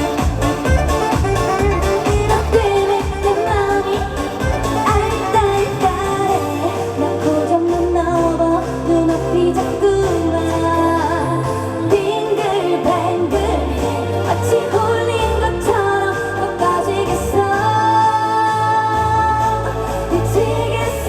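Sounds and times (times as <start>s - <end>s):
trot song over loudspeaker: 0.0s - 21.0s
woman singing: 0.0s - 21.0s.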